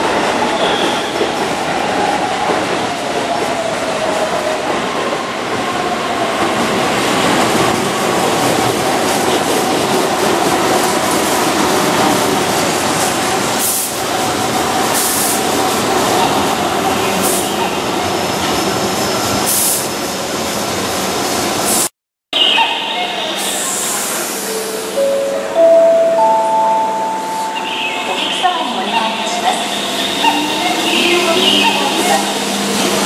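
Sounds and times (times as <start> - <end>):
wheels rumbling on rail: 0.0 - 21.9, 23.2 - 33.0.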